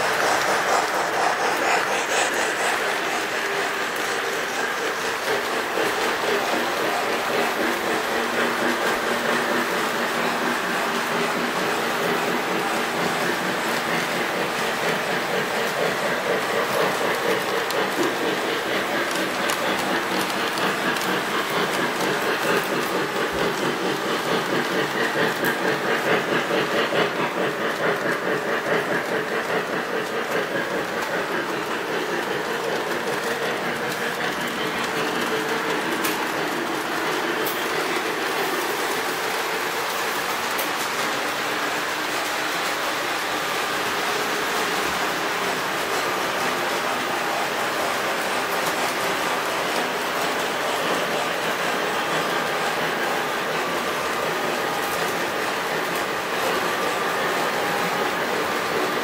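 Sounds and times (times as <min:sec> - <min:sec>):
model train rattling whir: 0:00.0 - 0:59.0.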